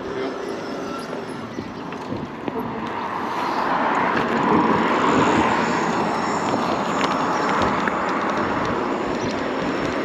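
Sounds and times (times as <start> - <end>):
road noise: 0.0 - 10.0
rushing wind: 0.0 - 10.0.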